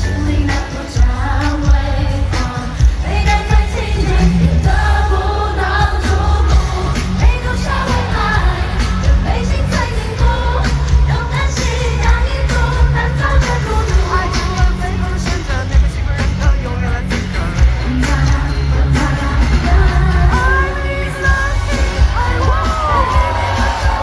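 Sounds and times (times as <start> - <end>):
driving drum beat: 0.0 - 24.0
heavy bass line: 0.0 - 24.0.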